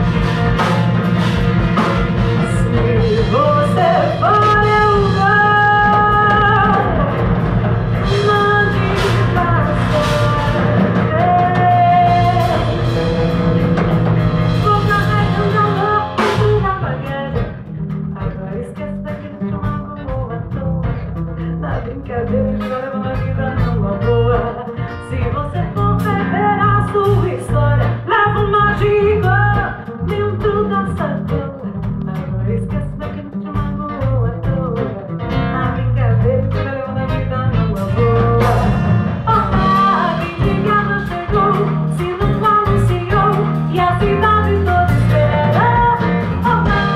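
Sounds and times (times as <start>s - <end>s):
bass guitar: 0.0s - 46.9s
drum kit: 0.0s - 46.9s
guitar: 0.0s - 46.9s
woman singing: 2.2s - 13.3s, 14.5s - 46.9s.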